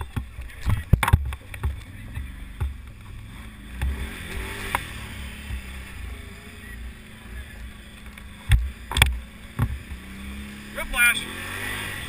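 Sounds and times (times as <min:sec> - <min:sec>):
atv engine low rumble: 0:00.0 - 0:12.0.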